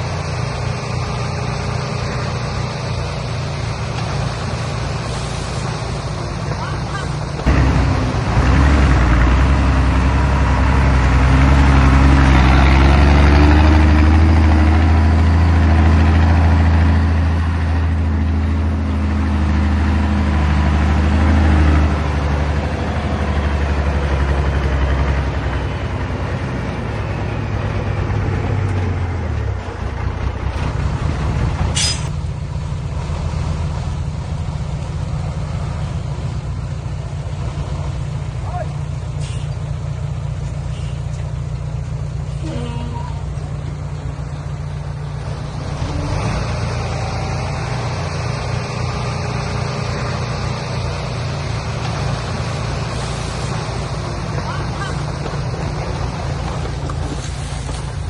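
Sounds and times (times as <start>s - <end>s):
diesel truck engine: 0.0s - 58.0s.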